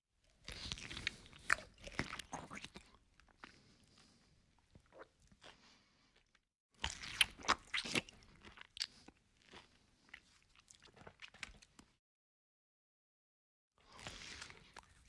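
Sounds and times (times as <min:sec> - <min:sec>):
person chewing crunchy food: 0:00.2 - 0:12.0, 0:13.8 - 0:15.0.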